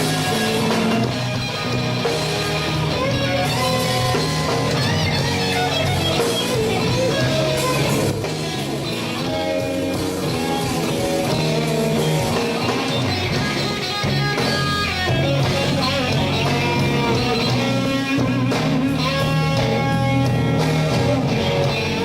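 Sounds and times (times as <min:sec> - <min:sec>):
bass and rhythm backing: 0:00.0 - 0:22.0
electric guitar blues solo: 0:00.0 - 0:22.0.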